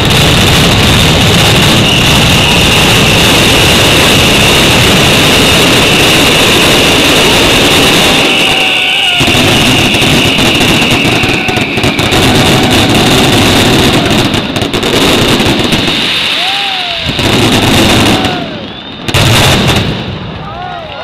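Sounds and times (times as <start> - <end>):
firecrackers banging and crackling: 0.0 - 21.0
whistling fireworks: 0.0 - 21.0.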